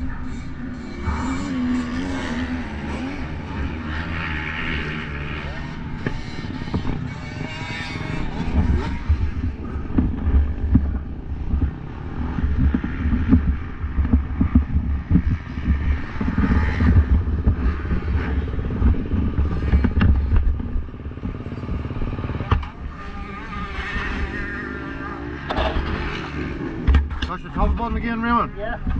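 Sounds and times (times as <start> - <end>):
motocross bike engines: 0.0 - 28.9.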